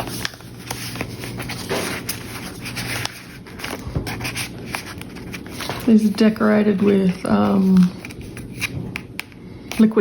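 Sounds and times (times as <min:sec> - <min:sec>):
paper pages rustling: 0:00.0 - 0:09.9.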